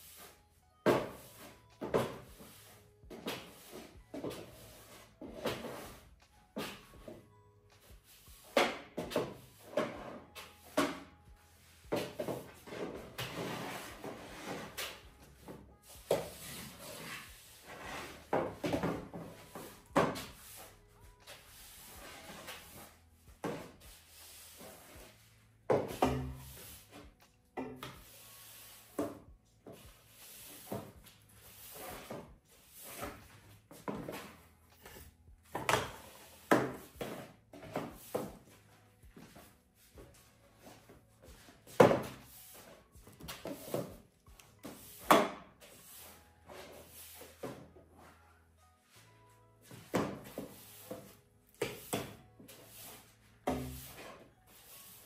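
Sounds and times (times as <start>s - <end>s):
mop scraping on floor: 0.0s - 55.0s.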